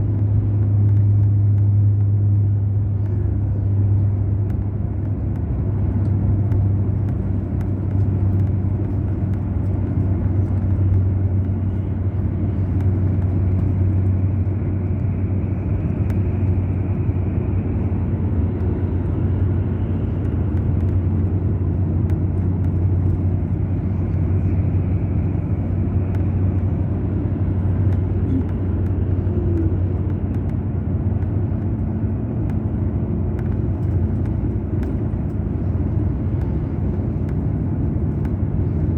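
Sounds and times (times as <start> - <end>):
coach diesel engine drone: 0.0 - 38.9.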